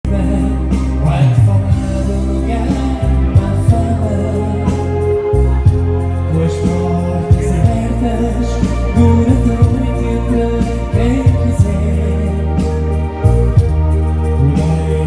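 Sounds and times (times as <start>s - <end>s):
instrumental backing with heavy bass: 0.0s - 15.0s
person singing: 0.0s - 15.0s.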